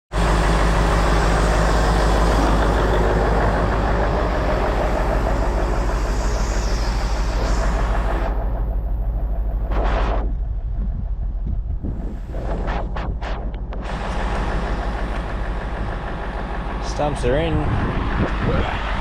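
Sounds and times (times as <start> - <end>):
heavy diesel truck engine running: 0.1 - 19.0.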